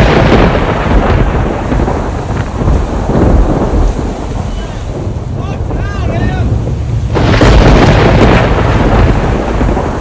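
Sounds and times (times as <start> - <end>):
churning water: 0.0 - 10.0
rain: 0.0 - 10.0
storm wind on microphone: 0.0 - 10.0.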